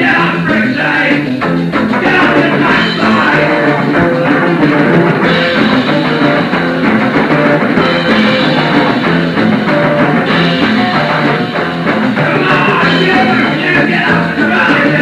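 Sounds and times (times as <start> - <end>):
electric guitars: 0.0 - 15.0
live rock band playing: 0.0 - 15.0.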